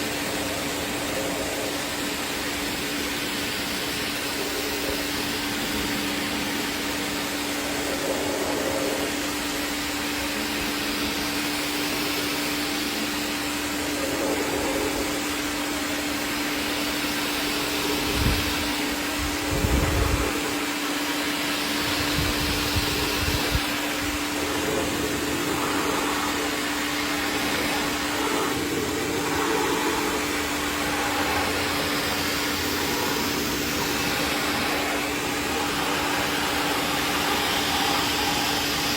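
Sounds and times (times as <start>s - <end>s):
cleaning machine motor: 0.0s - 38.9s
rushing air: 0.0s - 38.9s.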